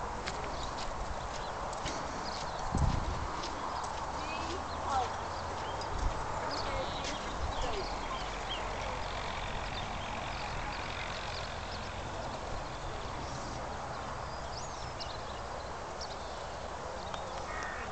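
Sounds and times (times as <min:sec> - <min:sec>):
open-air hiss: 0:00.0 - 0:17.9.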